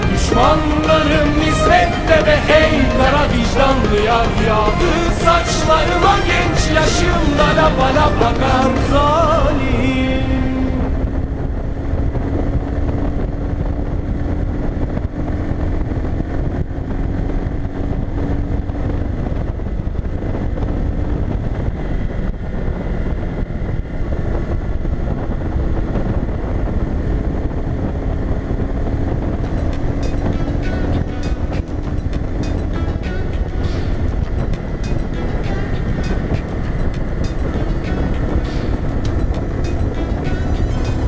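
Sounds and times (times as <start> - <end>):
motorcycle engine cruising: 0.0 - 41.0
wind buffeting microphone: 0.0 - 41.0.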